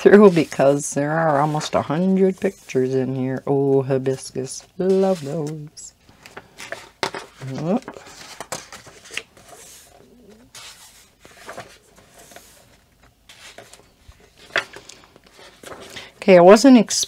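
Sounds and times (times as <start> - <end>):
paper pages rustling: 0.0 - 16.1.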